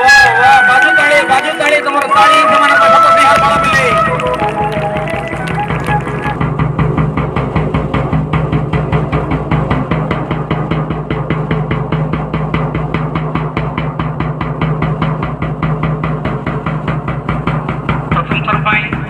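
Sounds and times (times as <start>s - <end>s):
fast drumbeat: 0.0s - 19.0s.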